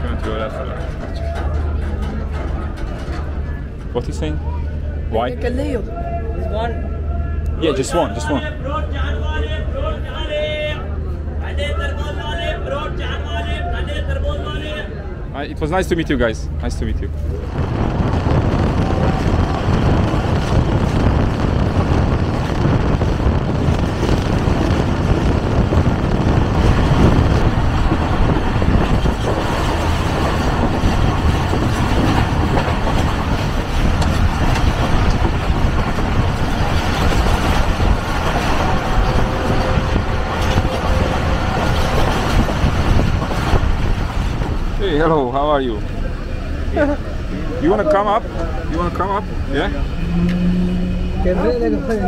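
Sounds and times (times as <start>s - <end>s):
train wheels rumbling on rails: 0.0s - 6.0s, 7.6s - 52.0s.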